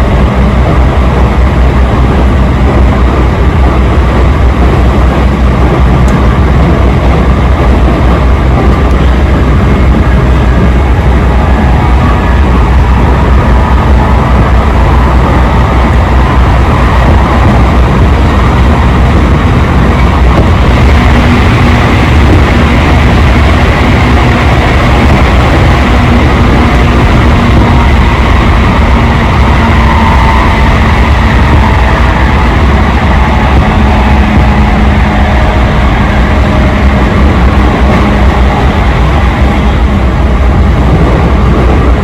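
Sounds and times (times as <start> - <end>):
train wheels rumbling: 0.0 - 42.0.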